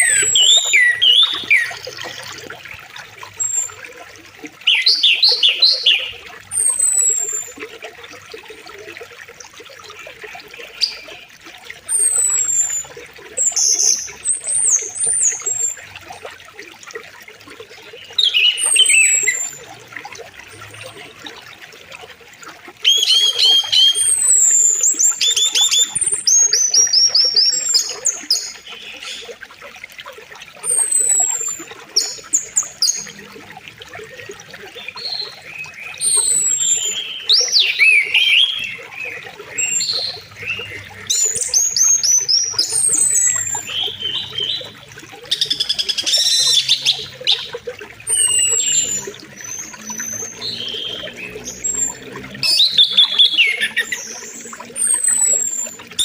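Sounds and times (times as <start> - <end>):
birds singing and calling: 0.0 - 8.7, 9.7 - 16.2, 17.5 - 29.4, 30.6 - 56.0.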